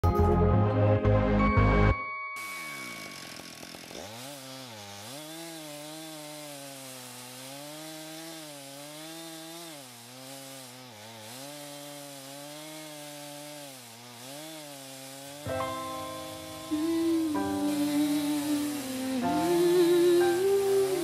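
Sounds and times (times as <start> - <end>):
chainsaw cutting timber: 2.4 - 21.0.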